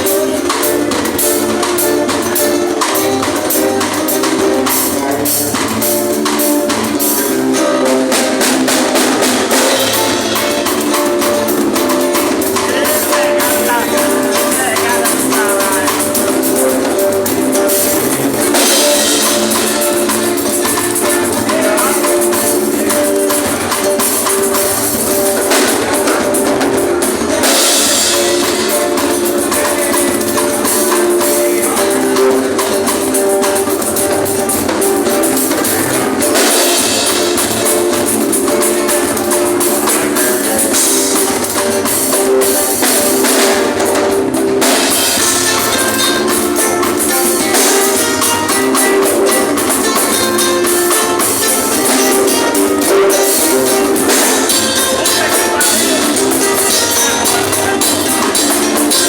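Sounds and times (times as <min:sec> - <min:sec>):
drum kit beat: 0:00.0 - 0:59.0
sustained instrumental notes: 0:00.0 - 0:59.0.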